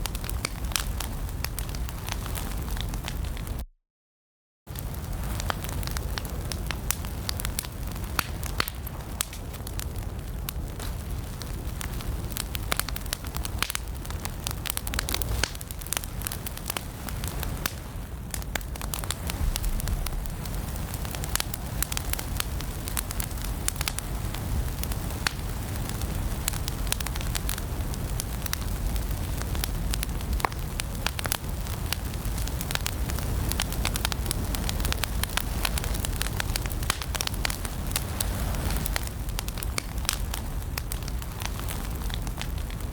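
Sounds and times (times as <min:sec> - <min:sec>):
fire crackling and popping: 0:00.0 - 0:03.6, 0:04.7 - 0:42.9
low rumble of flames: 0:00.0 - 0:03.6, 0:04.7 - 0:42.9.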